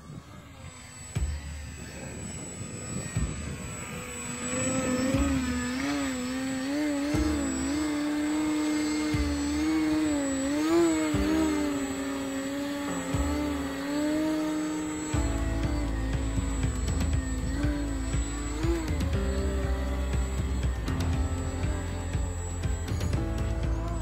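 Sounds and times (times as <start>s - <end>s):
rc plane motor whining: 0.0s - 24.0s.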